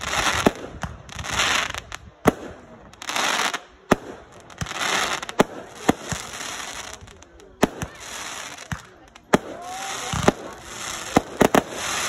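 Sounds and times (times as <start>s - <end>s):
fireworks bursting bangs: 0.0s - 12.0s
fireworks shells launching with hiss: 0.0s - 12.0s.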